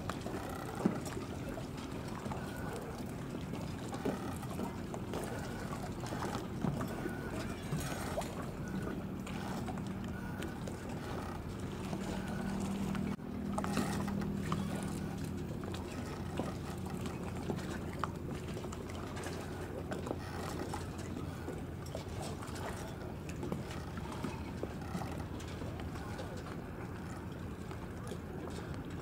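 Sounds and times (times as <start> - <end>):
distant engine hum: 0.0 - 29.0
small waves lapping: 0.0 - 29.0.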